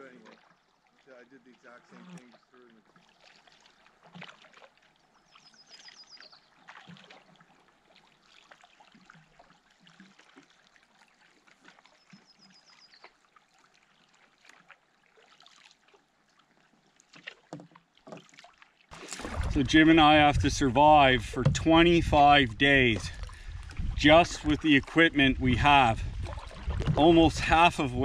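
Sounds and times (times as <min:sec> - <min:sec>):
water trickling and splashing: 0:00.0 - 0:28.0.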